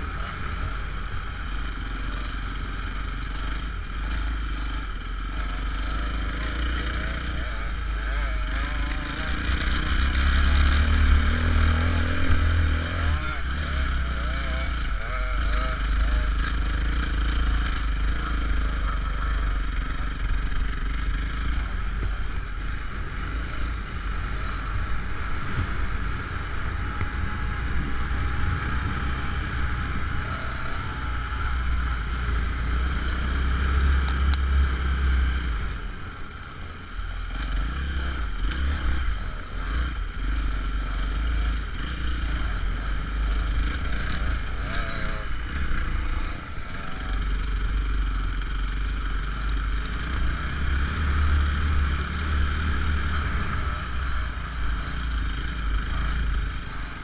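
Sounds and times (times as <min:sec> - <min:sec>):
dirt bike engine revving: 0:00.0 - 0:36.0, 0:36.8 - 0:57.0.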